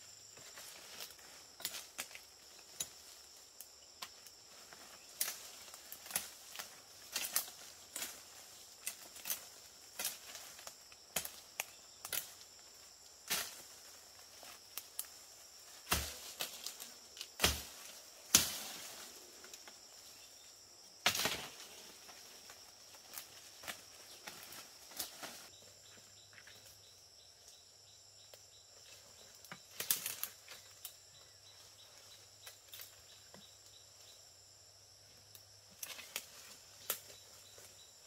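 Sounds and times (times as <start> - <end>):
high insect hum: 0.0 - 38.0.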